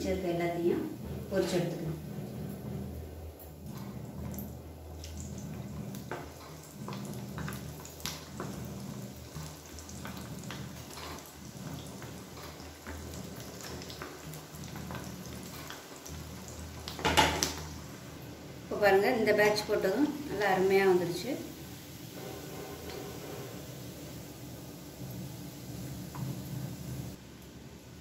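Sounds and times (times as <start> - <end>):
food deep-frying in oil: 0.0 - 28.0.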